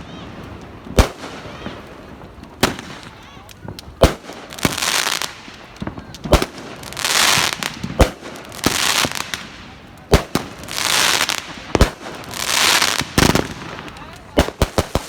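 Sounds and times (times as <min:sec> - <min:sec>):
firework bangs: 0:00.0 - 0:15.0
hissing crackle of fireworks: 0:00.0 - 0:15.0.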